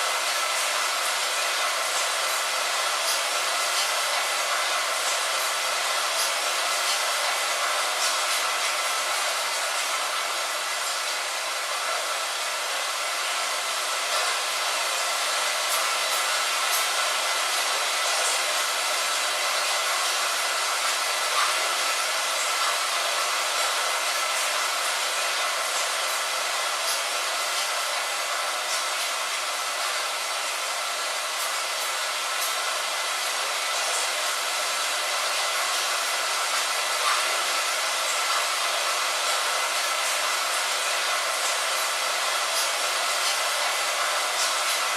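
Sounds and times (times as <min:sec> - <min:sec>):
rain on a window: 0:00.0 - 0:44.9.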